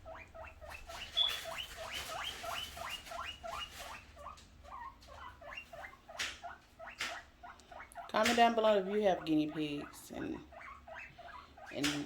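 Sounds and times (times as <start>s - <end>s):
guinea pigs squealing: 0.0s - 12.0s.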